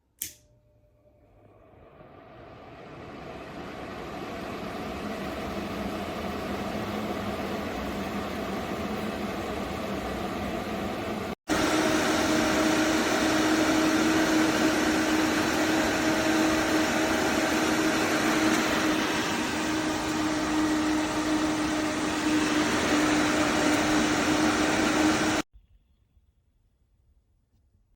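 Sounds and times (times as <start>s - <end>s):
exhaust fan running: 1.3s - 25.4s.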